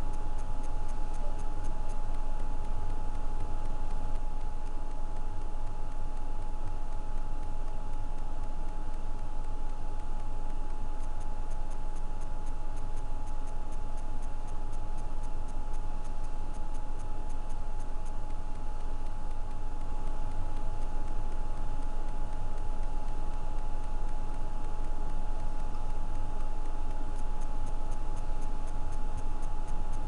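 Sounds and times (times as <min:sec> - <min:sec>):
background hum and hiss: 0:00.0 - 0:30.0
faint fast ticks: 0:00.0 - 0:30.0.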